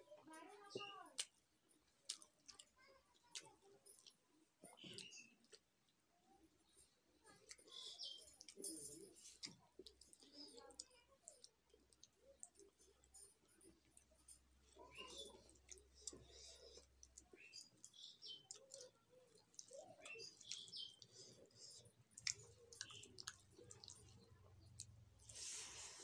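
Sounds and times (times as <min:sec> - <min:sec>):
person chewing food: 0:01.2 - 0:06.0, 0:06.8 - 0:26.0.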